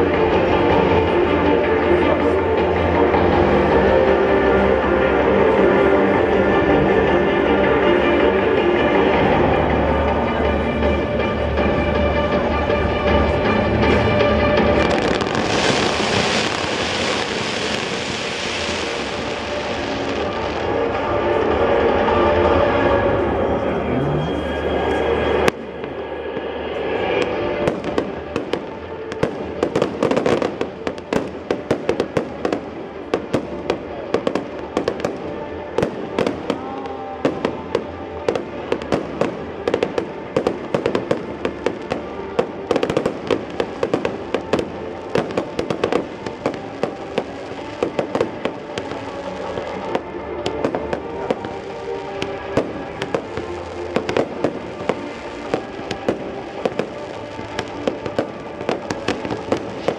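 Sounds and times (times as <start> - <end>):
fireworks bangs and crackles: 0.0 - 23.6, 24.4 - 59.9
music playing: 0.0 - 59.9.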